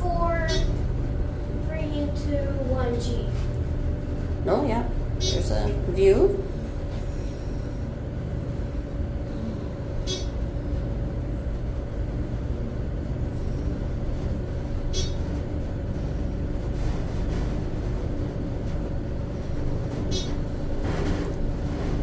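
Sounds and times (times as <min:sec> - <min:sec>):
elevator rumble and hum: 0:00.0 - 0:22.0.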